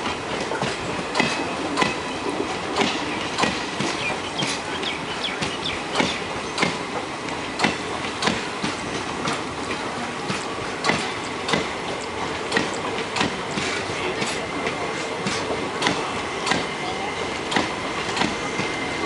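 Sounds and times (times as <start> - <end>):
train rumble: 0.0 - 19.0
train wheels clickety-clack: 0.0 - 19.0.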